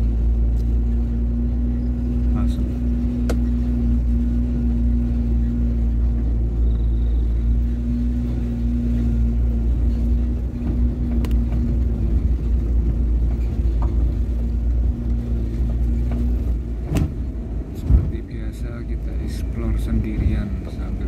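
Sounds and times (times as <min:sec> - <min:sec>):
car engine running: 0:00.0 - 0:21.0
tyres rumbling over rough road: 0:00.0 - 0:21.0.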